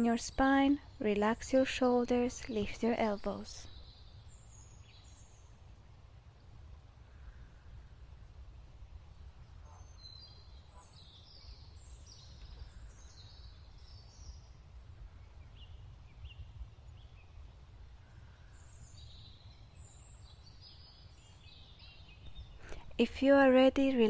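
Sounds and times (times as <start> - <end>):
songbirds chirping and whistling: 0.1 - 5.6, 9.2 - 24.0.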